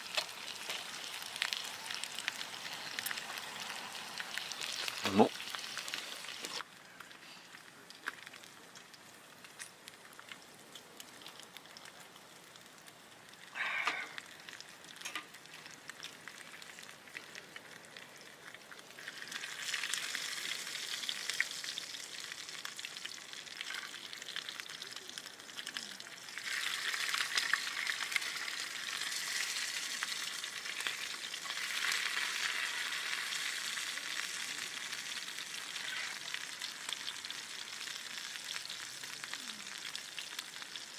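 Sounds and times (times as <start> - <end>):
food sizzling in a pan: 0.0 - 7.4, 13.3 - 17.2, 18.6 - 40.9.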